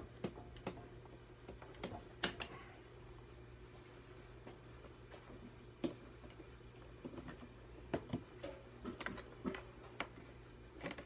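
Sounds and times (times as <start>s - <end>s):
faint steady low hum: 0.0s - 11.0s.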